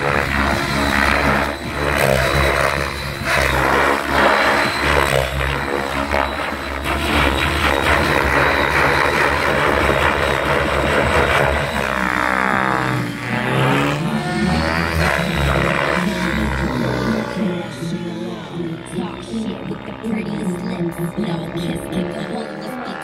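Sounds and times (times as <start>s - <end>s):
model helicopter rotor and motor: 0.0s - 23.0s.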